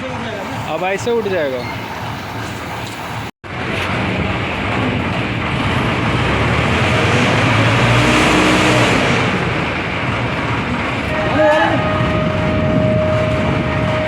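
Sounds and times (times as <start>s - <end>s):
heavy engine running: 0.0s - 14.0s.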